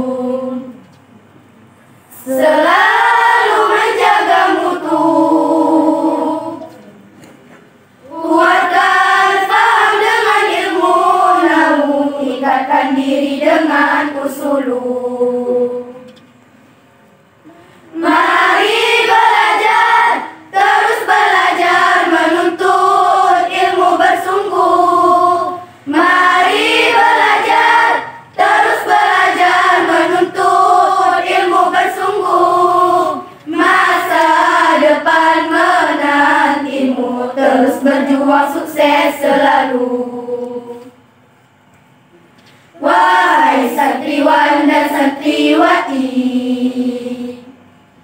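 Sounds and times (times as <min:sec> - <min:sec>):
group singing in unison: 0:00.0 - 0:00.9, 0:02.1 - 0:06.9, 0:08.0 - 0:16.3, 0:17.9 - 0:41.0, 0:42.7 - 0:47.6.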